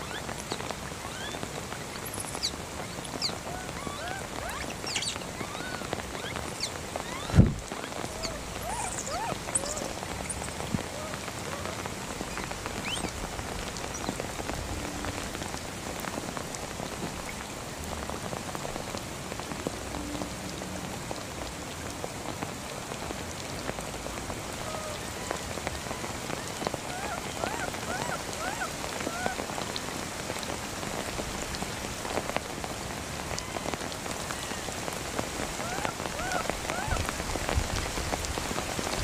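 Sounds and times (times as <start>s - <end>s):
rain falling on water: 0.0s - 39.0s.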